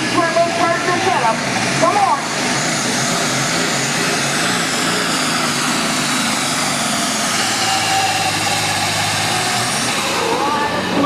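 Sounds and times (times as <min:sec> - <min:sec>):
diesel tractor engine at full power: 0:00.0 - 0:11.0.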